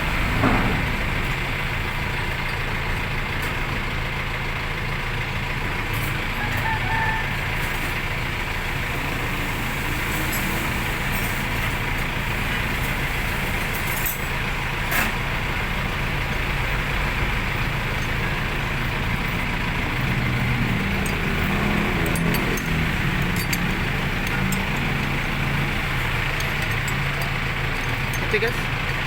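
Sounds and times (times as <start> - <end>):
motor vehicle engine running: 0.0 - 29.0.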